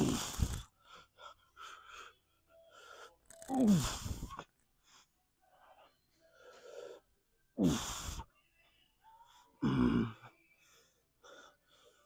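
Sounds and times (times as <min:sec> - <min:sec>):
quiet breaths: 0:00.0 - 0:12.0.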